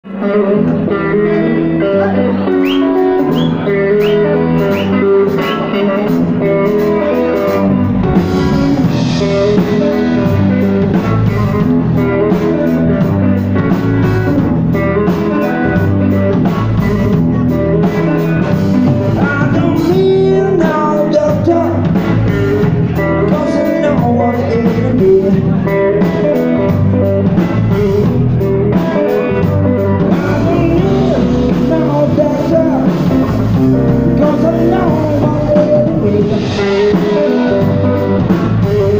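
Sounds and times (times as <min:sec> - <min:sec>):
man singing: 0:00.0 - 0:13.4, 0:16.8 - 0:38.9
bass guitar: 0:00.0 - 0:38.9
electric guitar: 0:00.0 - 0:38.9
drum kit: 0:00.1 - 0:38.9.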